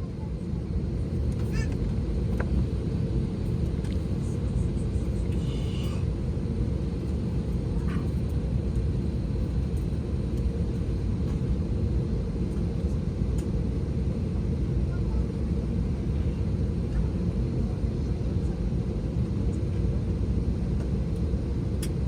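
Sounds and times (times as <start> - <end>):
airliner cabin ventilation rumble: 0.0 - 22.0.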